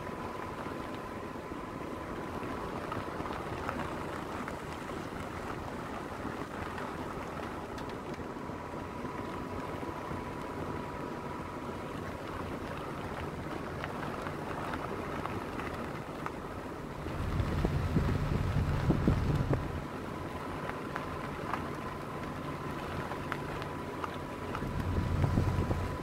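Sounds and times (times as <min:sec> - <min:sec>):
faint steady whine: 0:00.0 - 0:26.0
vehicle rumbling on gravel: 0:00.0 - 0:26.0.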